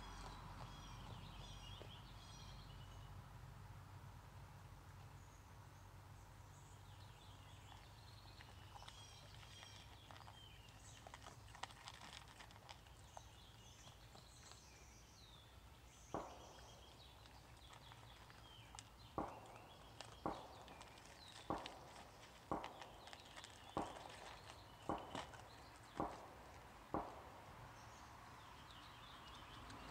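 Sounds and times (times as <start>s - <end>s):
faint birdsong: 0.0s - 29.9s.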